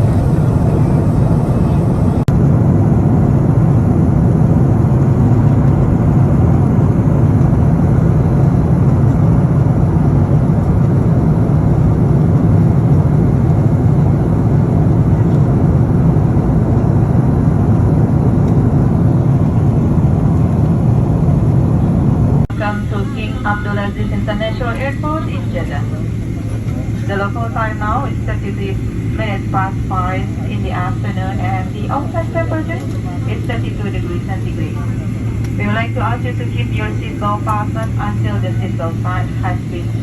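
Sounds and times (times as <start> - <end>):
airliner cabin engine drone: 0.0 - 40.0.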